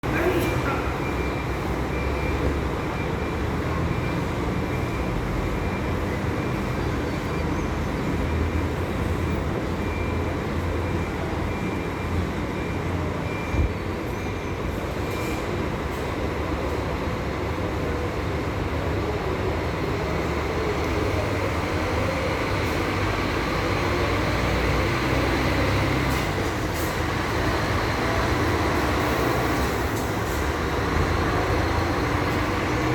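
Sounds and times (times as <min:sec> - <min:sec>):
diesel coach engine rumble: 0:00.0 - 0:32.9
road and mechanical noise: 0:00.0 - 0:32.9.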